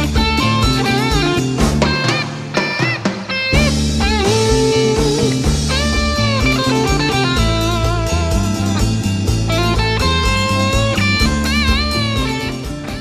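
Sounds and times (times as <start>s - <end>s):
bass: 0.0s - 13.0s
electric guitar with pitch bends: 0.0s - 13.0s
steady drum beat: 0.0s - 13.0s.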